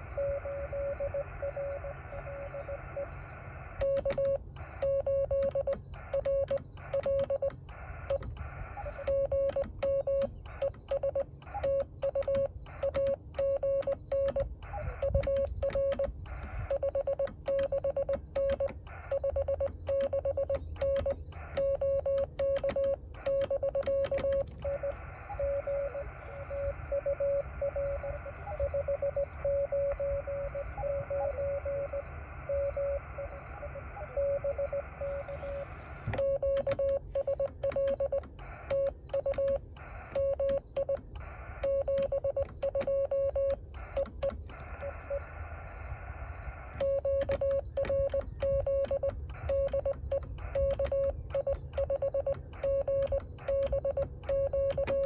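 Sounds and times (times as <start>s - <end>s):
morse code sidetone: 0.0s - 55.0s
receiver hiss: 0.0s - 55.0s
weak morse code reply: 0.0s - 55.0s.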